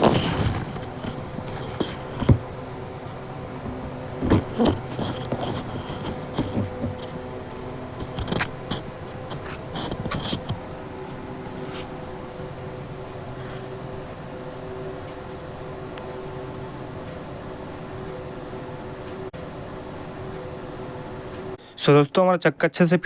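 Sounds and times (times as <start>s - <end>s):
cricket chirping: 0.0s - 23.0s
faint steady hum: 0.0s - 23.0s.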